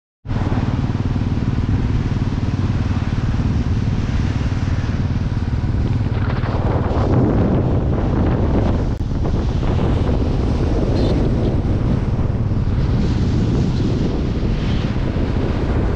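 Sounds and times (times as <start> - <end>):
wind rushing over microphone: 0.2 - 15.9
motorcycle engine running: 0.3 - 15.9.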